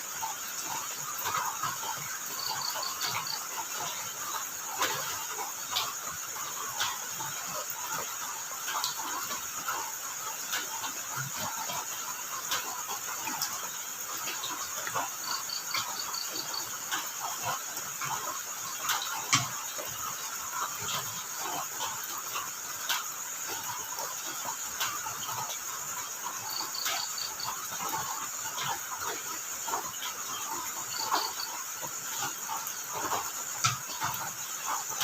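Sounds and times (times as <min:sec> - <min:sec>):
pulsed cricket chirp: 0:00.0 - 0:35.0
steady high insect buzz: 0:00.0 - 0:35.0
sharp dripping clicks: 0:00.2 - 0:35.0.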